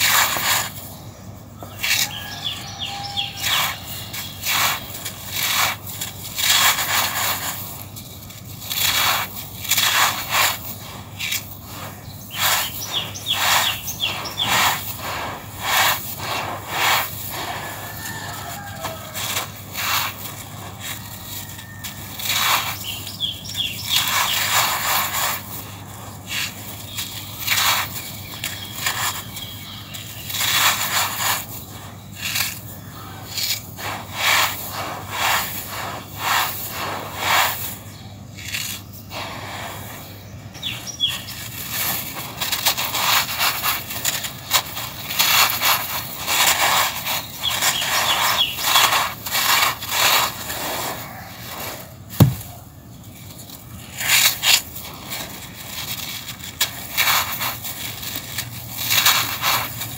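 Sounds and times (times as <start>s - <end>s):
grains pouring through fingers: 0.0s - 52.5s
crushed stone crunching by hand: 1.6s - 40.0s, 40.6s - 59.9s.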